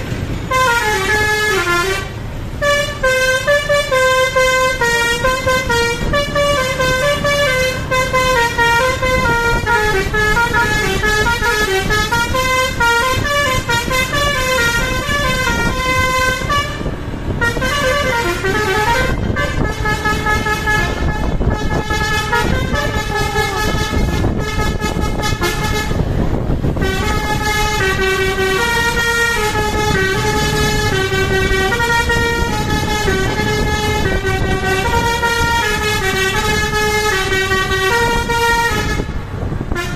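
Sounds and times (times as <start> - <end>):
bus engine rumble: 0.0 - 39.9
multi-tone bus horn tune: 0.0 - 39.9.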